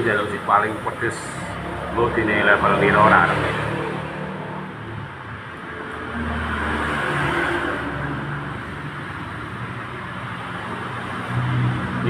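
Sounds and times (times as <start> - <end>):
road vehicle passing by: 0.0 - 12.0.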